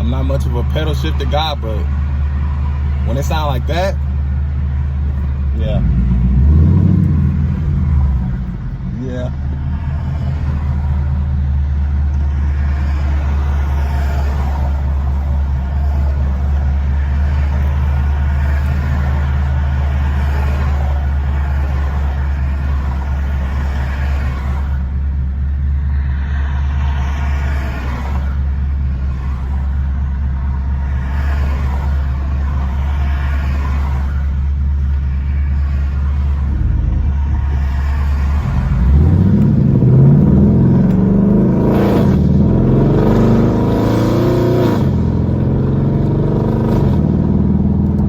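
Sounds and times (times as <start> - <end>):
loud car exhaust droning: 0.0 - 48.0.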